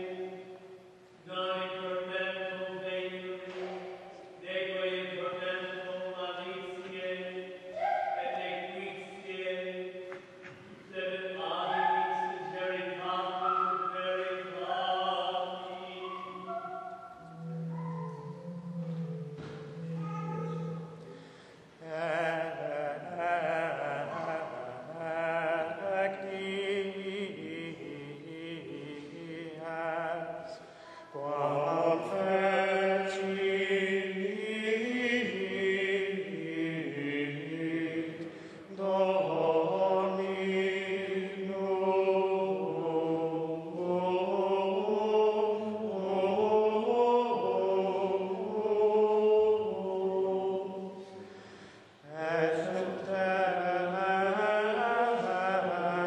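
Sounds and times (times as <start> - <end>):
choir chanting: 1.5 - 10.1, 11.0 - 21.2, 21.8 - 51.3, 52.0 - 56.0.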